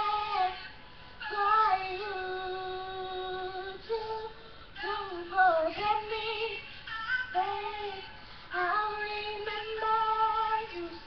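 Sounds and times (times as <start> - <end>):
woman singing a slow ballad: 0.0 - 11.0.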